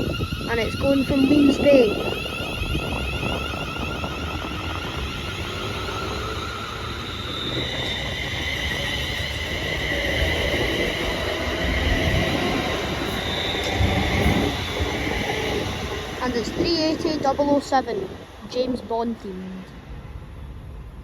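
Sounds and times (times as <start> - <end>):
high-pitched whine: 0.0 - 21.0
train rail noise: 0.0 - 21.0.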